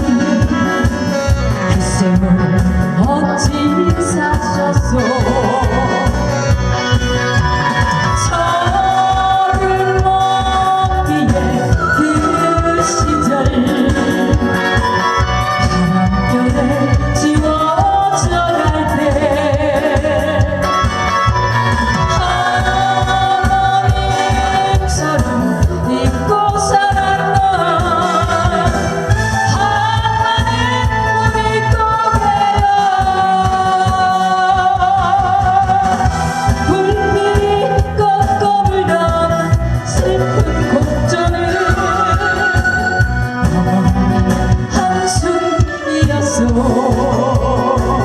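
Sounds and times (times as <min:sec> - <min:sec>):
loud accompaniment with steady beat: 0:00.0 - 0:48.0.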